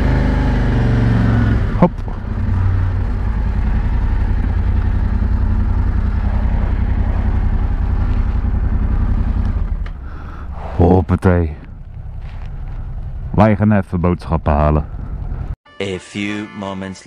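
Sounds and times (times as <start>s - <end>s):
motorcycle engine burbling: 0.0s - 15.6s.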